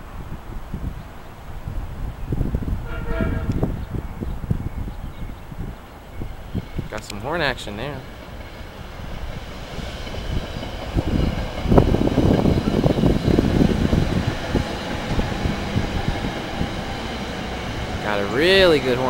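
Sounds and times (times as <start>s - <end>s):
train wheels rumbling on rails: 2.4s - 19.0s.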